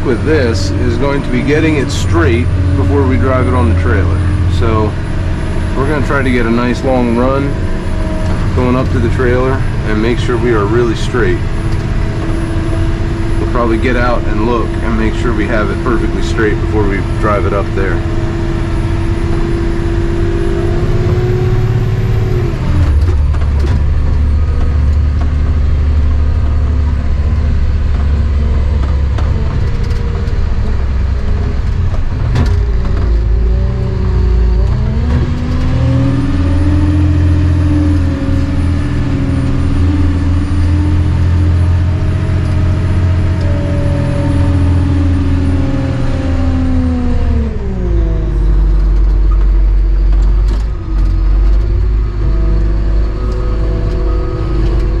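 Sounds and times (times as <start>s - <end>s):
dump truck diesel engine revving: 0.0s - 55.0s.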